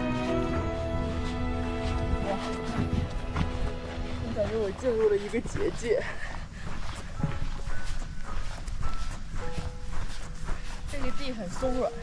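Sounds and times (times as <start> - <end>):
footsteps on pine needles: 0.0 - 12.0.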